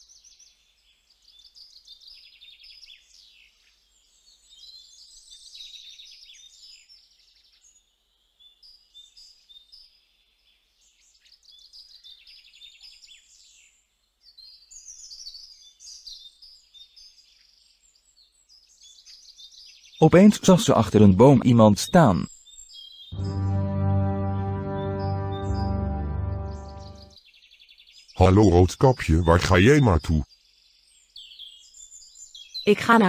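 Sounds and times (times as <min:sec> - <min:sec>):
small birds chirping and trilling: 0:00.0 - 0:23.1, 0:27.2 - 0:33.0.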